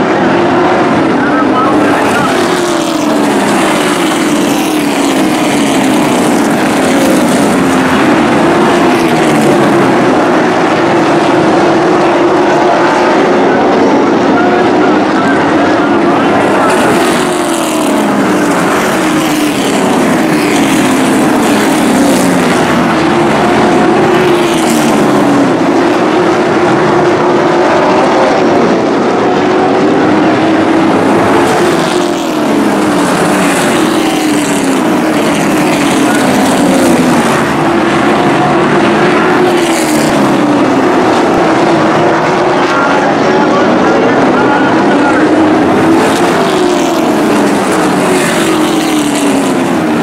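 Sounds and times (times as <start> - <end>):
race truck engines: 0.0 - 50.0.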